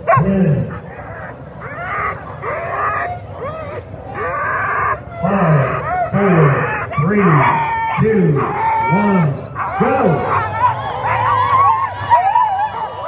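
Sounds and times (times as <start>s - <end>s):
dogs yelping and howling: 0.0s - 13.0s.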